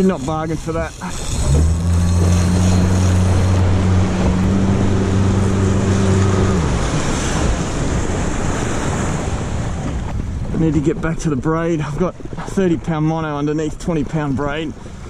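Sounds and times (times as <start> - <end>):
outboard motor running: 0.0 - 15.0
water noise: 0.0 - 15.0
wind on microphone: 0.0 - 15.0.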